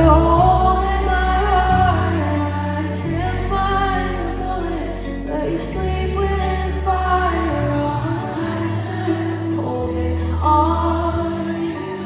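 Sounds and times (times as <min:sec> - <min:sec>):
woman singing a slow melody: 0:00.0 - 0:12.0.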